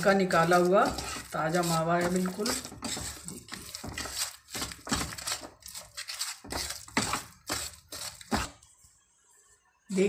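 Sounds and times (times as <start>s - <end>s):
spatula scraping a metal pan: 0.0s - 8.6s.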